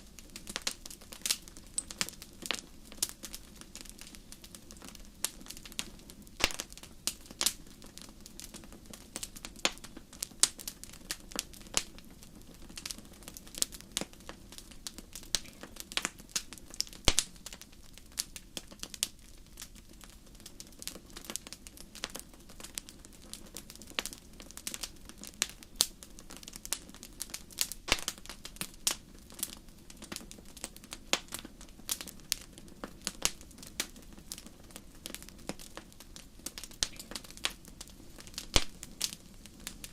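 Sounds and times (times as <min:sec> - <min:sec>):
low rush of flames: 0:00.0 - 0:39.9
wood fire crackling and popping: 0:00.0 - 0:39.9.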